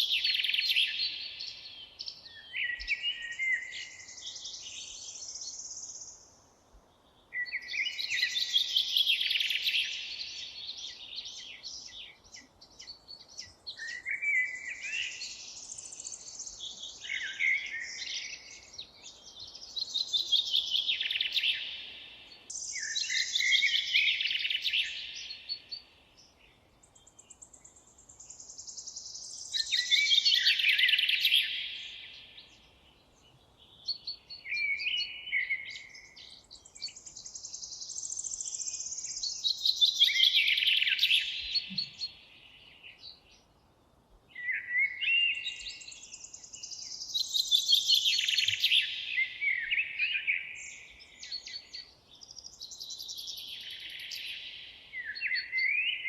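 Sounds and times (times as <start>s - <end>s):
bird chirps: 0.0s - 6.3s, 7.2s - 43.5s, 44.3s - 56.0s
songbirds singing: 0.0s - 56.0s.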